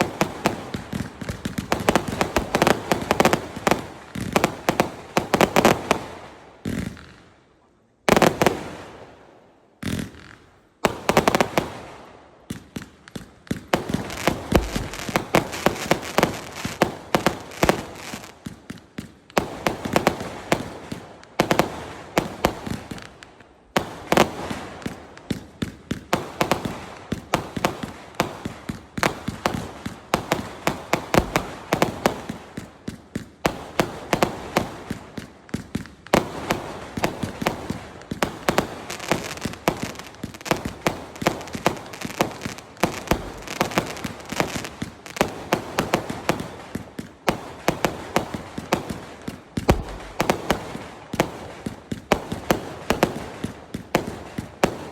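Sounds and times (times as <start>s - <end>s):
fireworks bangs and bursts: 0.0s - 7.4s, 8.0s - 54.9s.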